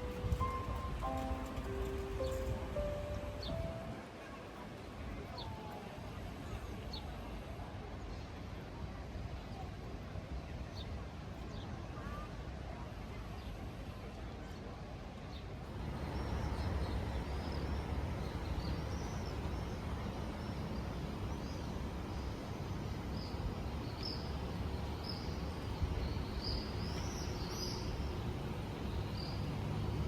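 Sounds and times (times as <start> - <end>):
city street rumble: 0.0 - 30.0.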